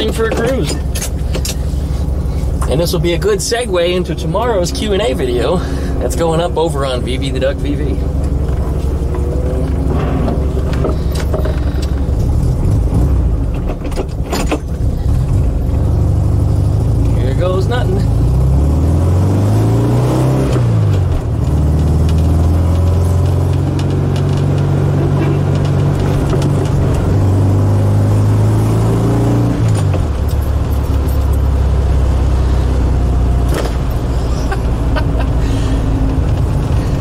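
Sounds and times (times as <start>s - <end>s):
car engine while driving: 0.0s - 37.0s.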